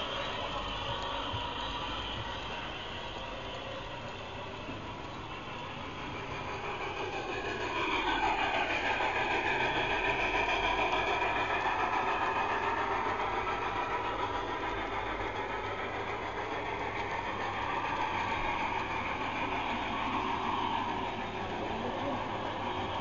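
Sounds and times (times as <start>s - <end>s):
model train motor whine: 0.0s - 23.0s.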